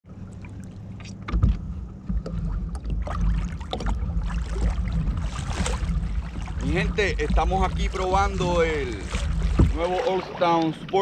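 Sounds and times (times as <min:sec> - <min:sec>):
water splashing against kayak hull: 0:00.1 - 0:11.0
wind rumble on microphone: 0:00.1 - 0:11.0
knocks on hull: 0:01.3 - 0:10.2.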